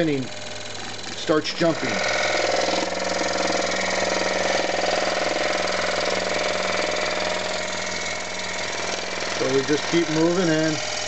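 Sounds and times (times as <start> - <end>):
scroll saw cutting wood: 0.0 - 11.0.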